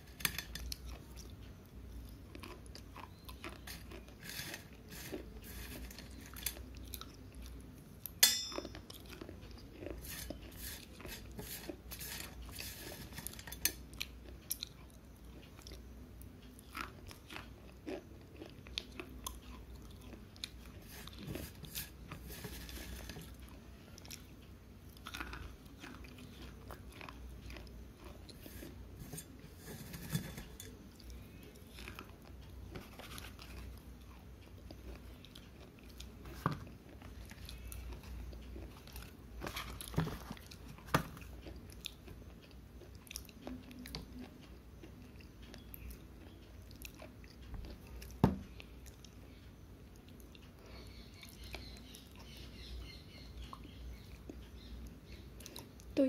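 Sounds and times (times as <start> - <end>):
chewing crunches and crackles: 0.0 - 56.0.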